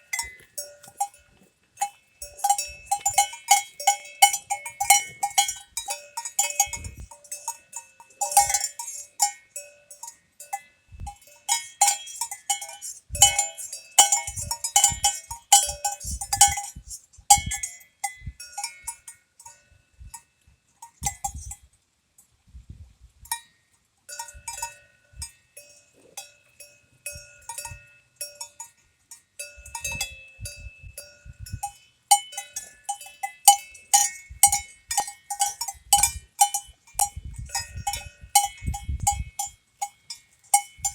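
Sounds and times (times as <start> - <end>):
cowbells clanking: 0.0 - 21.6, 23.3 - 40.9.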